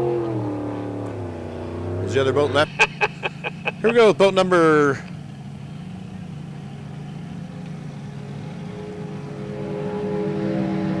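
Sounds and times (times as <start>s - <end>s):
distant boat engines droning: 0.0s - 11.0s.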